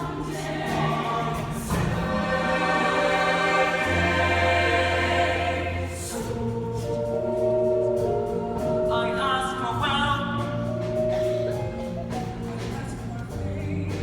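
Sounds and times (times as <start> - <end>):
group singing chords in harmony: 0.0 - 11.6.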